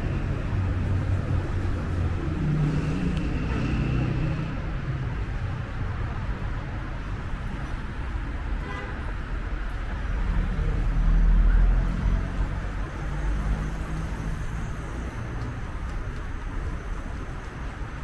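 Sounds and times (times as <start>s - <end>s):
passing cars rumbling: 0.0s - 18.0s.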